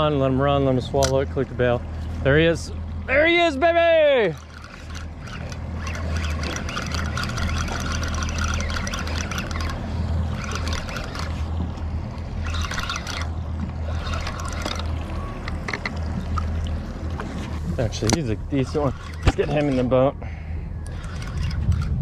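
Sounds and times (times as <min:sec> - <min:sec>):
steady low hum: 0:00.0 - 0:22.0
fishing reel gears whirring: 0:02.2 - 0:22.0.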